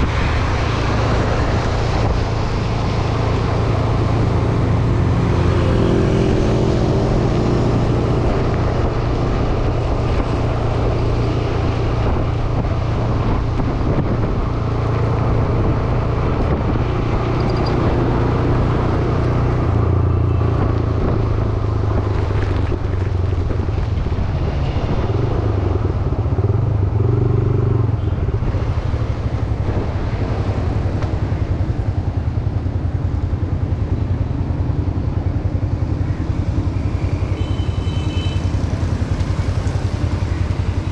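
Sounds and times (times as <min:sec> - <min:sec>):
road noise rushing: 0:00.0 - 0:40.9.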